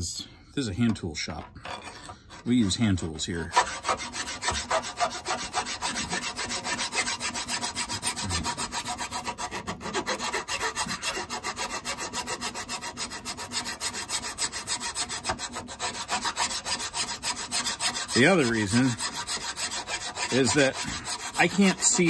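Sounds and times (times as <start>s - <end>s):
hand file rasping on metal: 1.6s - 22.0s.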